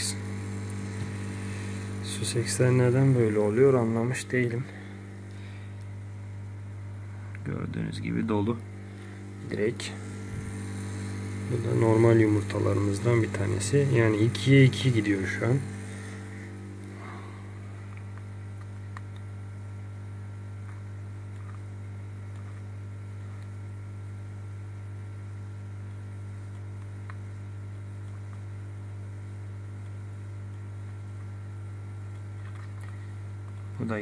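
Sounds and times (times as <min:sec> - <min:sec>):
electrical mains hum: 0:00.0 - 0:34.0.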